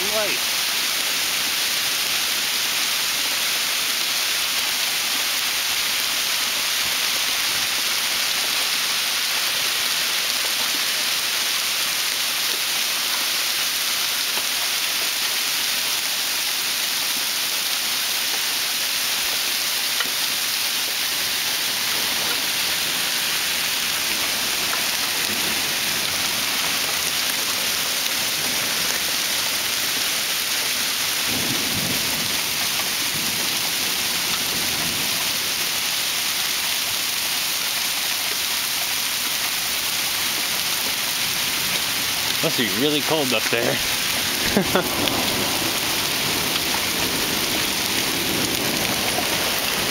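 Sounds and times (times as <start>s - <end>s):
heavy hail on pavement: 0.0s - 49.9s.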